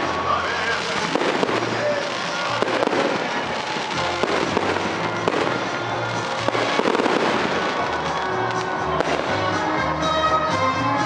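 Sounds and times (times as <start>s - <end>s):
fireworks bangs and crackling: 0.0s - 10.1s
music playing: 0.0s - 11.0s.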